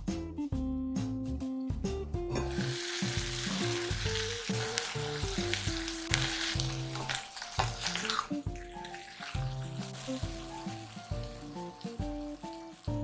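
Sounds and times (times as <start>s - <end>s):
water sizzling in hot pot: 2.3s - 13.0s
spatula stirring squash: 2.4s - 13.0s.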